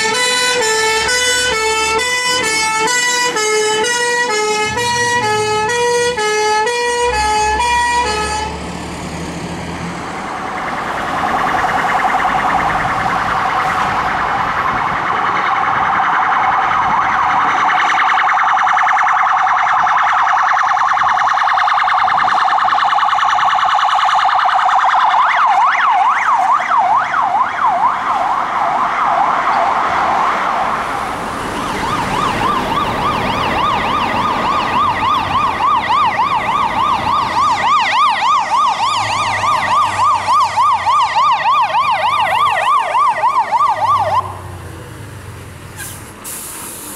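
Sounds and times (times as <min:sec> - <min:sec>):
police siren wailing and yelping: 0:00.0 - 0:08.6, 0:10.2 - 0:44.5
two-note fire truck siren: 0:00.0 - 0:09.1, 0:10.3 - 0:44.6
fire engine siren warbling: 0:00.0 - 0:46.9.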